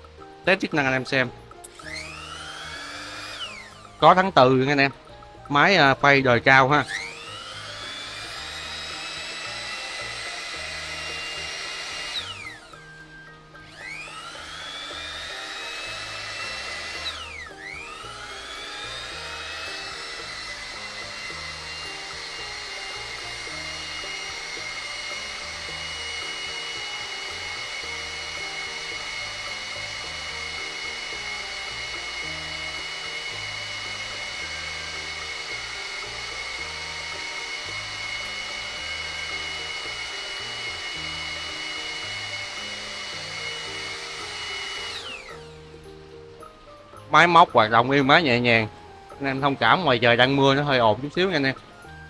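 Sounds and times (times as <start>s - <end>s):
background music: 0.0s - 52.0s
electric router whine: 0.0s - 52.0s.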